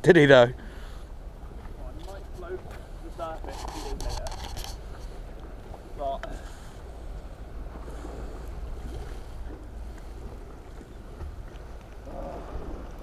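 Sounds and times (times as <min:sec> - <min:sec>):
sea water washing: 0:00.0 - 0:13.0.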